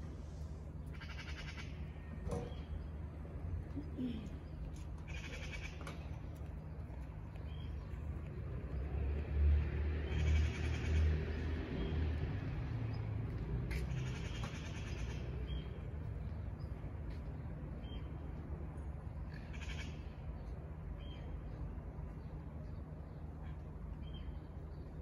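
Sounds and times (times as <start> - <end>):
low street rumble: 0.0 - 25.0.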